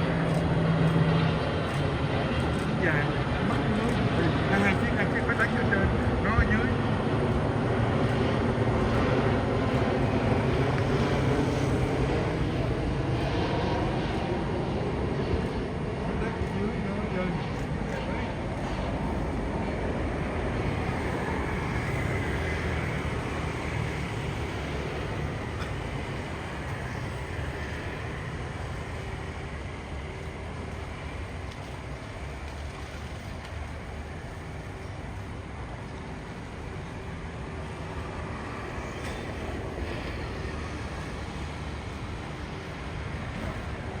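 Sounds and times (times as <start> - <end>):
vehicle rumbling: 0.0 - 44.0.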